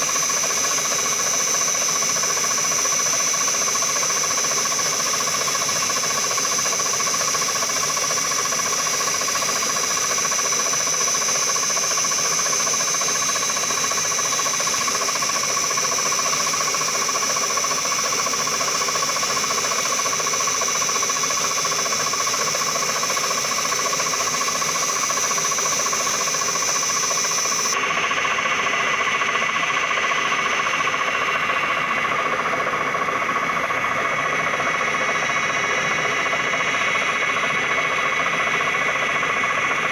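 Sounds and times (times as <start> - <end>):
milling machine cutting: 0.0 - 36.4.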